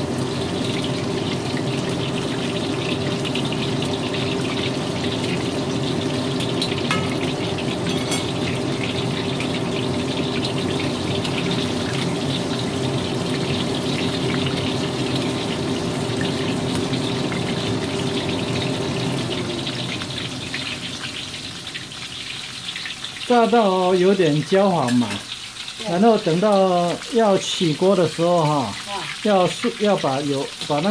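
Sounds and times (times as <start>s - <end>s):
chicken deep-frying in oil: 0.0s - 30.9s.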